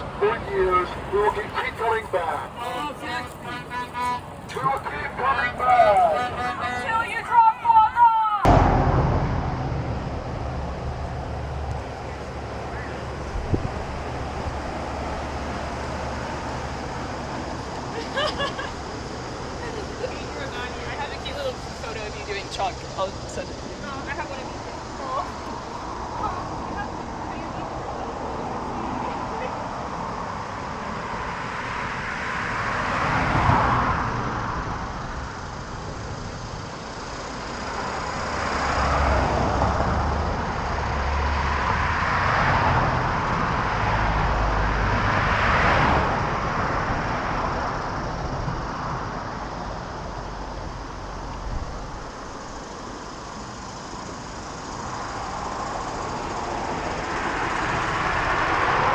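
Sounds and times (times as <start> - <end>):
cars passing: 0.0 - 58.9
low traffic rumble: 0.0 - 58.9.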